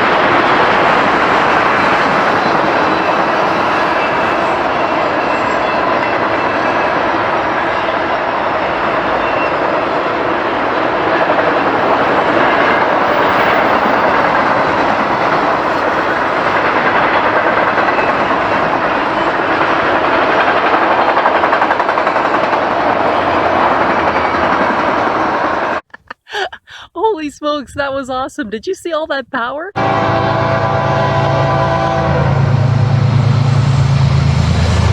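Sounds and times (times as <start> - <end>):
freight train rolling past: 0.0 - 25.8, 29.8 - 34.9.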